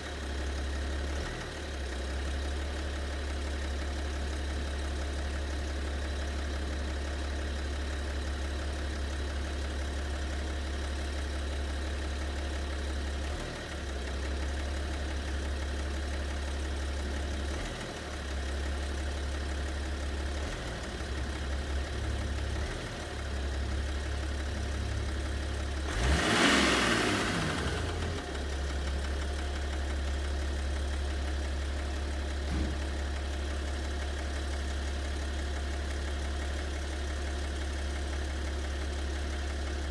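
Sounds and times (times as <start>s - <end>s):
diesel engine idling with knock: 0.1s - 39.9s.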